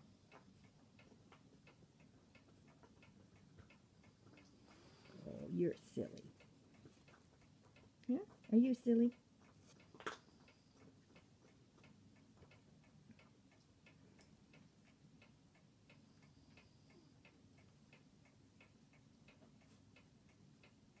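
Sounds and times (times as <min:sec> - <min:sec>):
faint mechanical ticking: 0:00.0 - 0:21.0.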